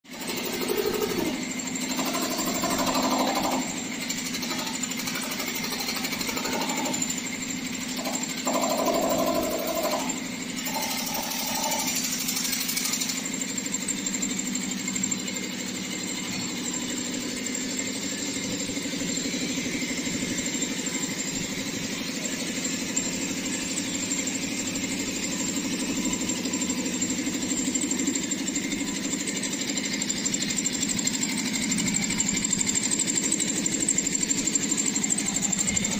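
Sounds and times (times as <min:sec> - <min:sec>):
air compressor chugging: 0:00.0 - 0:35.9.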